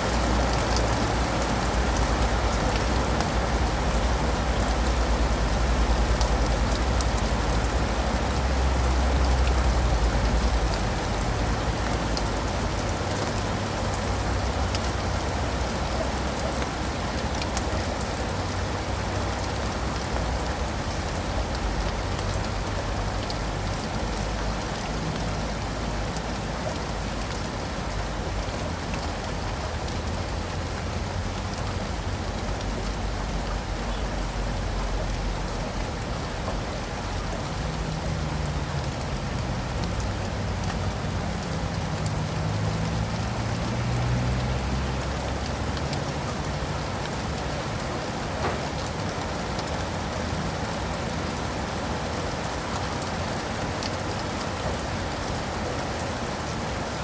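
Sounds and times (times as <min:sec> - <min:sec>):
rain pattering on leaves and pavement: 0:00.0 - 0:57.0.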